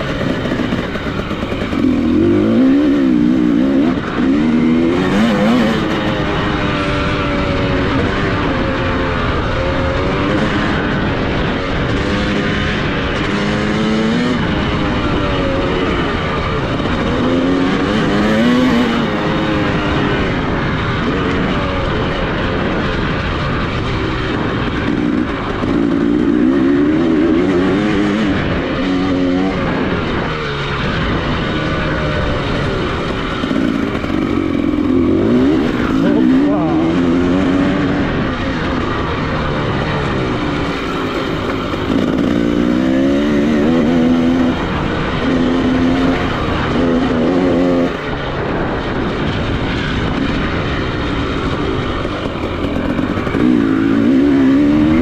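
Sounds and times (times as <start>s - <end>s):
dirt bike engine revving: 0.0s - 55.0s
wind and track noise: 0.0s - 55.0s.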